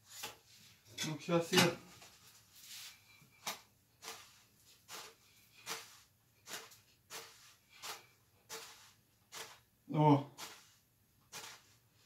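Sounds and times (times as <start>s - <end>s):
batter swishing in frying pan: 1.9s - 12.0s.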